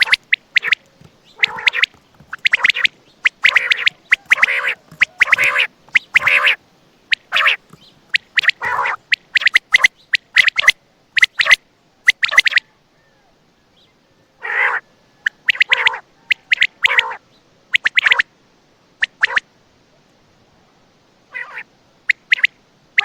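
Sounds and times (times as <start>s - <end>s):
quail calling: 0.0s - 13.4s, 14.4s - 18.3s, 19.0s - 19.5s, 21.3s - 23.0s.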